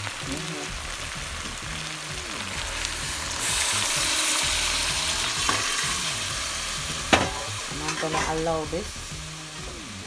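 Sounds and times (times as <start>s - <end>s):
loud sizzle in hot pot: 0.0s - 10.0s.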